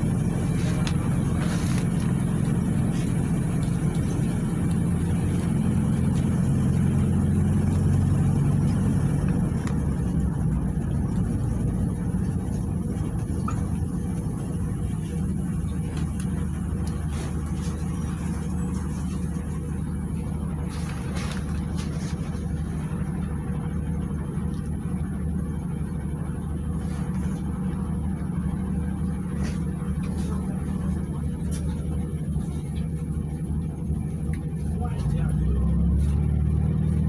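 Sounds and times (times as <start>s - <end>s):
bus engine drone: 0.0s - 37.0s
road noise: 0.0s - 37.0s.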